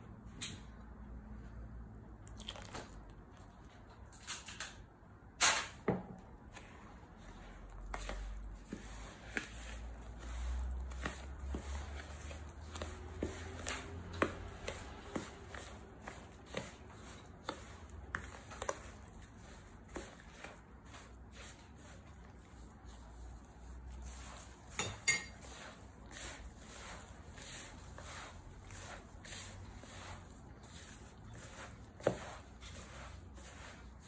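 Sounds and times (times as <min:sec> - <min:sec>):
spoon stirring dough in bowl: 0:06.2 - 0:34.0.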